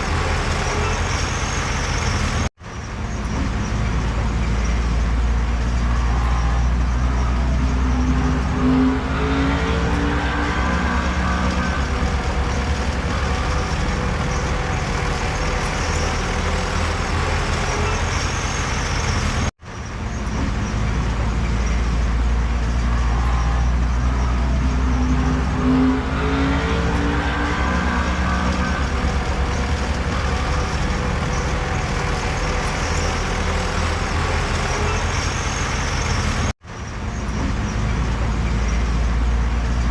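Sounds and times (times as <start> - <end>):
diesel earthmoving machinery running: 0.0 - 39.9.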